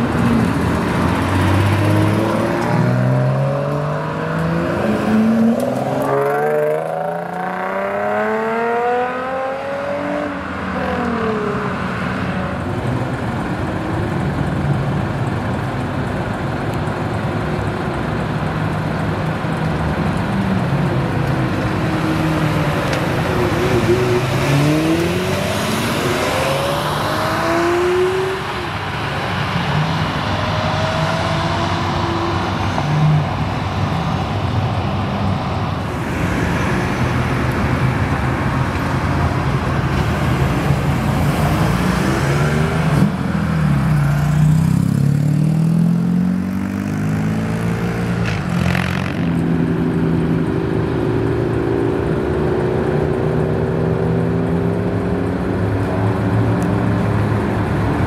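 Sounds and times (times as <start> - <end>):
sports car accelerating: 0.0 - 13.2, 20.2 - 58.0.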